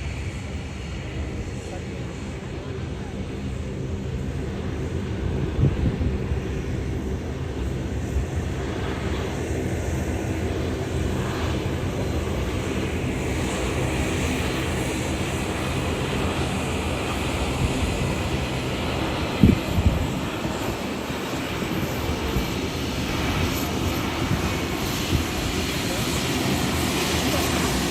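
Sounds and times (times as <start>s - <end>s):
jet engine rumble and hiss: 0.0s - 27.9s
wind buffeting microphone: 0.1s - 27.9s.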